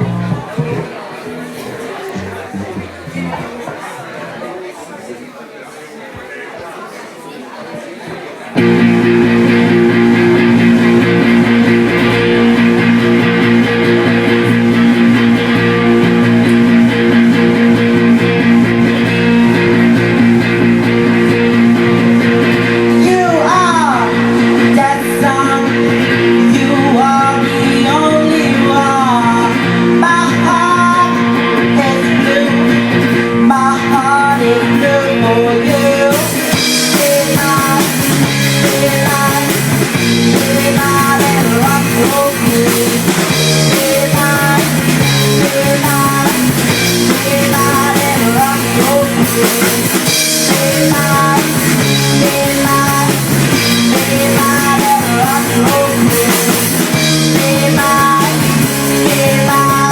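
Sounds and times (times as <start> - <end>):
rock song with singing: 0.0 - 4.0, 8.5 - 59.9.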